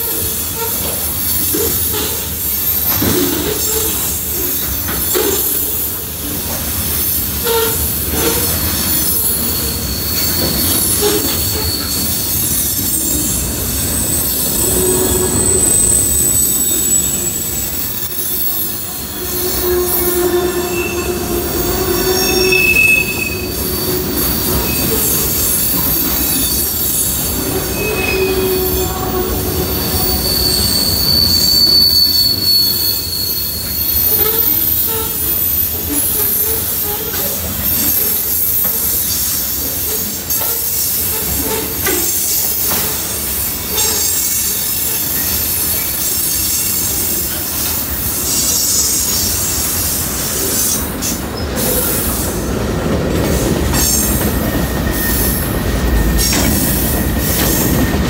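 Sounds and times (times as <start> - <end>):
wheels rumbling on rail: 0.0 - 58.0
high-pitched wheel squeals: 0.1 - 52.5, 53.2 - 58.0.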